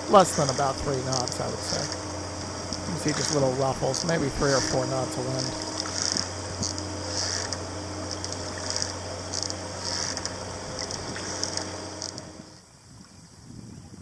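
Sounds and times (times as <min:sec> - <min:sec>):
water swishing from oar: 0:00.0 - 0:12.6
steady low hum: 0:00.0 - 0:14.0.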